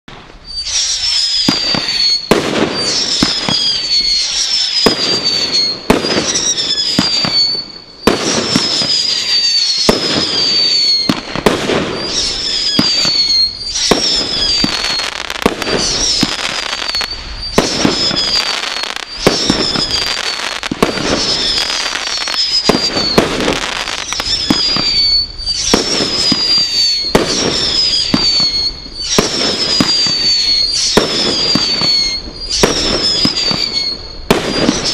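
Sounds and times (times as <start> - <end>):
firework cracks: 0.1 - 34.9
firework whistle: 0.1 - 34.9.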